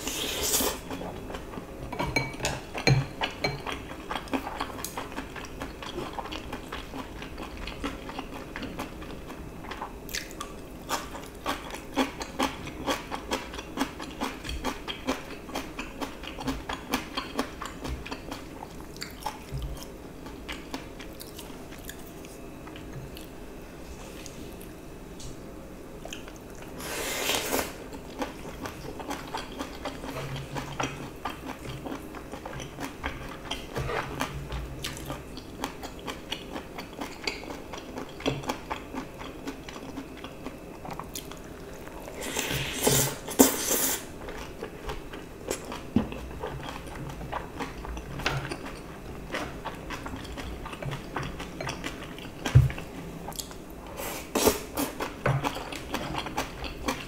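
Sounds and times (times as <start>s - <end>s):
chewing with wet mouth sounds: 2.5s - 23.4s, 27.9s - 42.8s, 44.2s - 53.6s, 54.8s - 57.0s.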